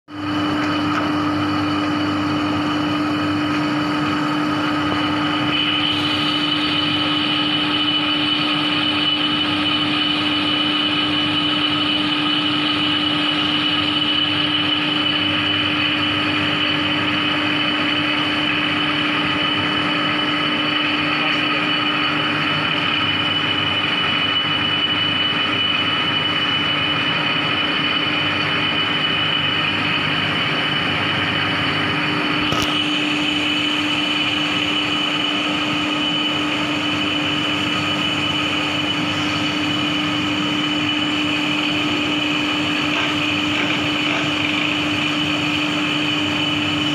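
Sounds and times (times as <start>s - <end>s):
gear whine: 0.1s - 46.9s
higher whine: 0.1s - 46.9s
lathe mechanical hum: 0.1s - 46.9s.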